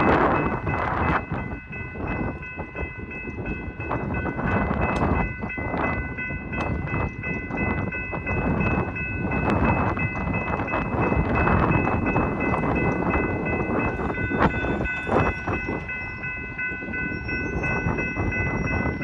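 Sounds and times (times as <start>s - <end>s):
gusting low rumble: 0.0s - 19.0s
railroad crossing bell ringing: 0.0s - 19.0s.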